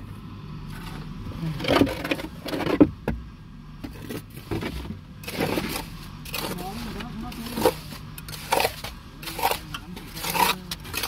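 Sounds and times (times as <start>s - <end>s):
low mechanical hum: 0.0s - 11.0s
knocks and scraping: 0.7s - 11.0s.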